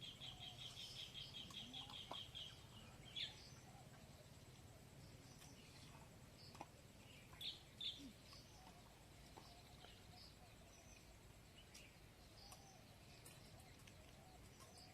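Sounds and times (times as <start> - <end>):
bird chirps: 0.0 - 14.9.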